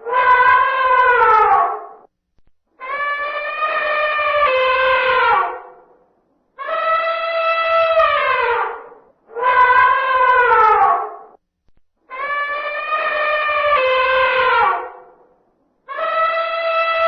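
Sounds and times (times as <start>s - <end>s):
elephant trumpeting: 0.0s - 1.9s, 2.8s - 5.8s, 6.6s - 11.4s, 12.1s - 15.1s, 15.9s - 17.0s.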